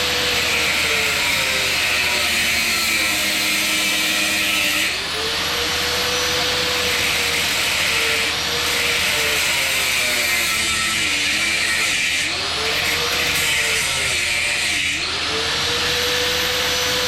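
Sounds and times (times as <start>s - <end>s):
power tool motor running: 0.0s - 17.0s.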